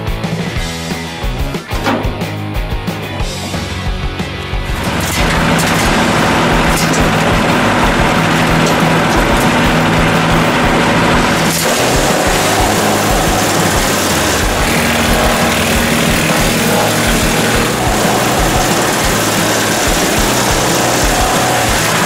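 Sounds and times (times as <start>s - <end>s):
wood chipper engine running: 1.8s - 22.0s.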